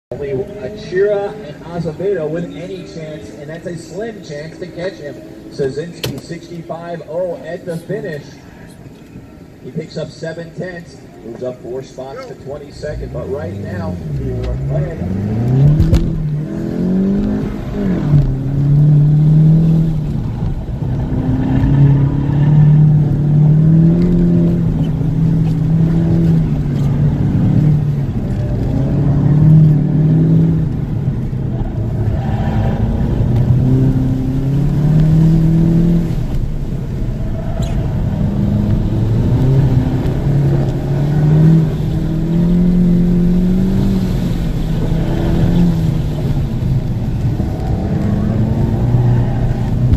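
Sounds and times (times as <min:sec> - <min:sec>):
car engine accelerating: 0:00.1 - 0:06.7, 0:12.3 - 0:49.9.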